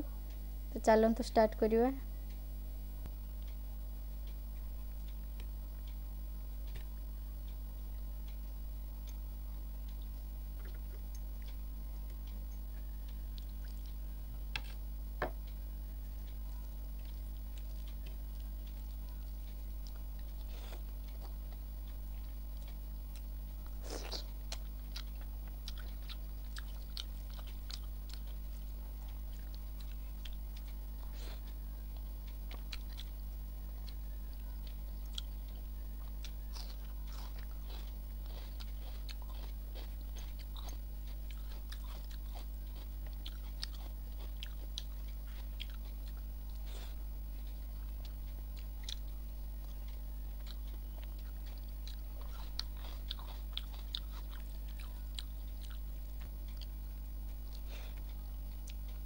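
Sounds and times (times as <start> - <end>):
low electrical hum: 0.0 - 59.0
person chewing food: 7.8 - 59.0.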